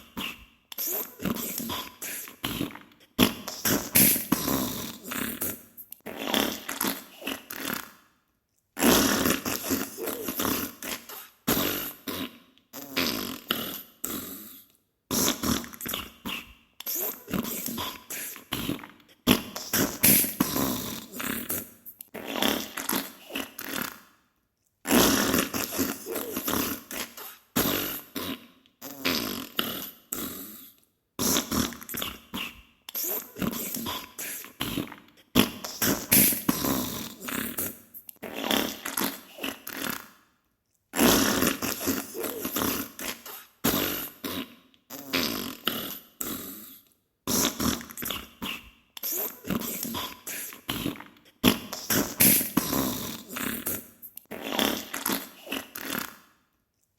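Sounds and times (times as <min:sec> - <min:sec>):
farting bursts: 0:00.0 - 0:08.0, 0:08.8 - 0:14.5, 0:15.1 - 0:24.0, 0:24.9 - 0:30.3, 0:31.2 - 0:40.1, 0:41.0 - 0:46.6, 0:47.3 - 0:56.2.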